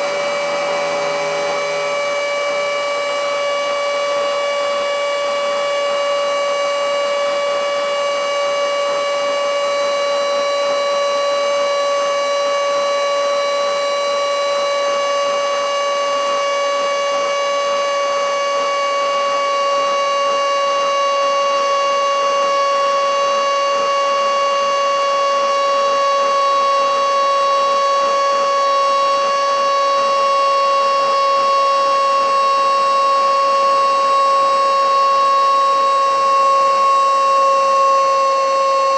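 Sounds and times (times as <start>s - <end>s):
handheld vacuum motor whine: 0.0s - 38.9s.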